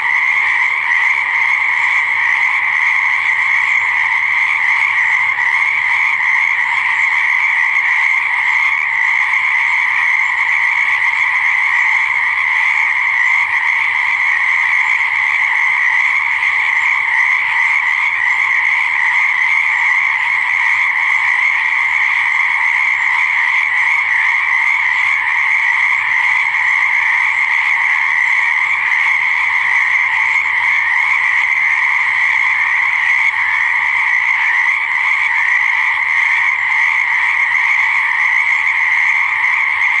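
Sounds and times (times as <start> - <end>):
frogs calling: 0.0 - 40.0.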